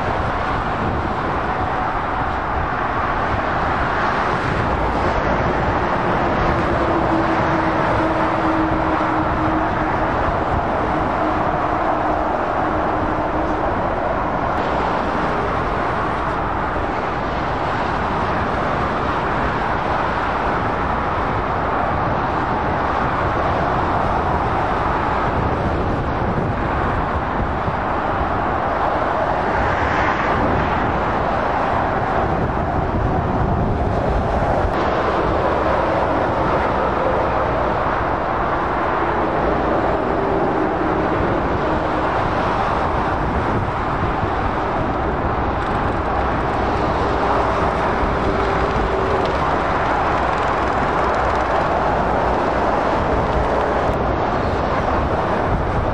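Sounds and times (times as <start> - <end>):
motorway traffic passing: 0.0 - 55.9.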